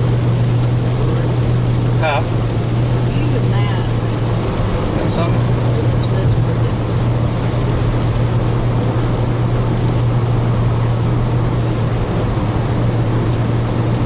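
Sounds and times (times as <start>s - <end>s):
car engine and road drone: 0.0s - 14.0s
tyres hissing on wet road: 0.0s - 14.0s.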